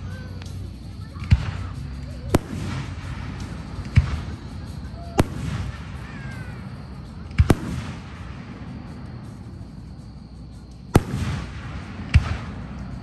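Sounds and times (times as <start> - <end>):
fireworks booming: 0.0 - 10.0, 10.9 - 13.0
fireworks crackle: 0.0 - 13.0.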